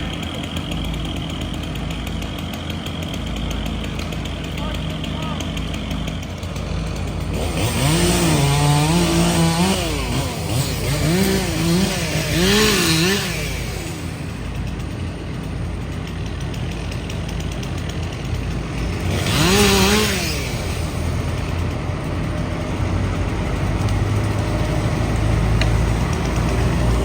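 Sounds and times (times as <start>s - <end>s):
chainsaw revving: 0.0s - 27.0s.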